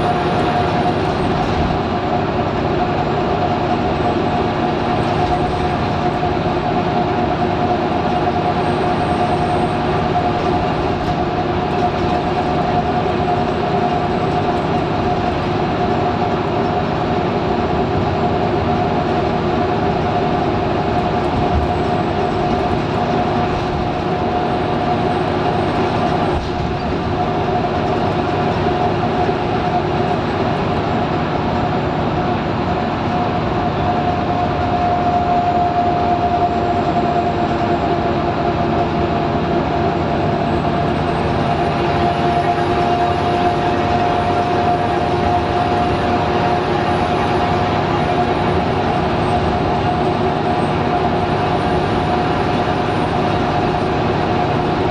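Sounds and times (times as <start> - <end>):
bus diesel engine drone: 0.0 - 54.9.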